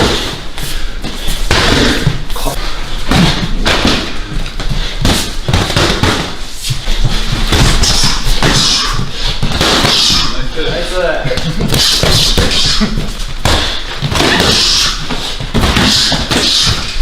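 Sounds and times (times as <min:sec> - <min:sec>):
punches and kicks landing: 0:00.0 - 0:02.3, 0:03.0 - 0:10.4, 0:11.3 - 0:17.0.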